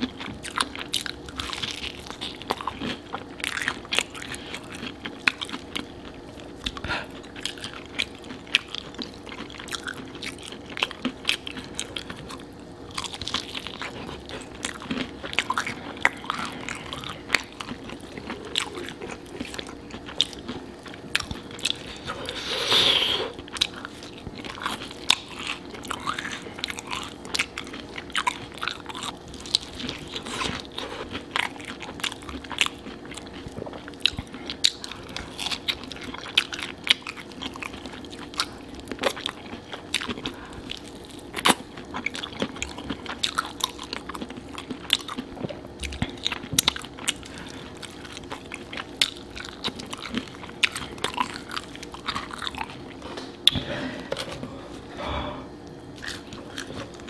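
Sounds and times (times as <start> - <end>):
wet chewing: 0.0 - 54.5, 55.6 - 57.0.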